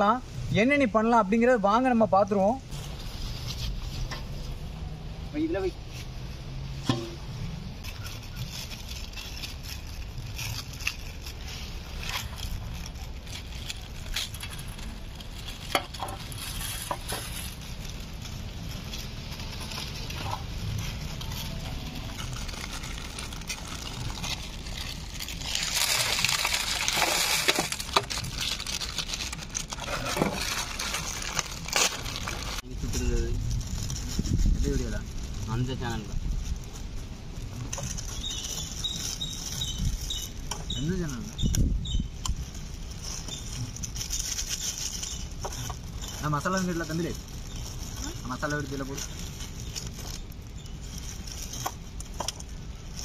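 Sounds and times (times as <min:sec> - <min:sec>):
plastic packets tearing and crinkling: 0:07.4 - 0:53.0.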